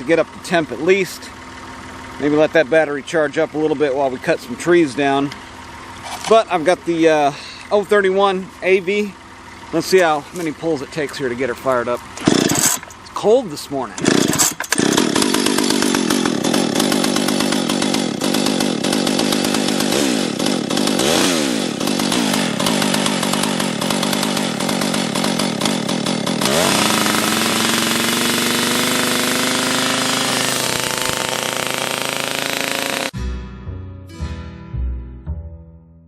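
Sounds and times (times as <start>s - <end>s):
chainsaw running with throttle blips: 0.0s - 33.2s.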